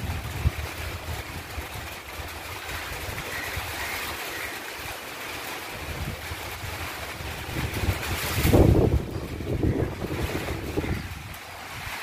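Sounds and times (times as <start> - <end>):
wind buffeting microphone: 0.0 - 4.2, 5.6 - 12.0
steady rushing hiss: 0.0 - 12.0.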